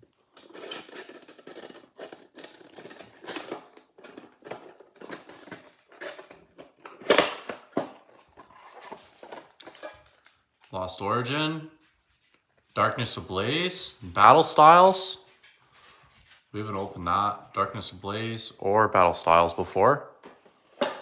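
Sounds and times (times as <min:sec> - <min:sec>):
plastic wrap crinkling: 0:00.0 - 0:18.2.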